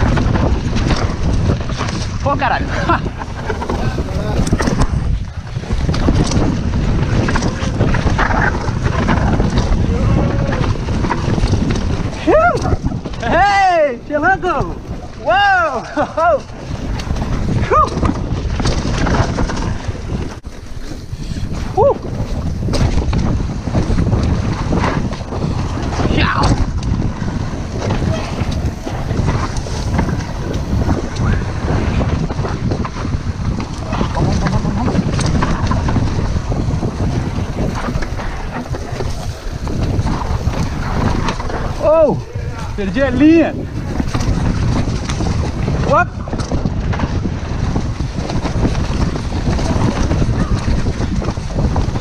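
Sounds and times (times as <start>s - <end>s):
bike knocks and rattles: 0.0s - 52.0s
bike tyres rumbling on dirt: 0.0s - 52.0s
wind buffeting microphone: 0.0s - 52.0s.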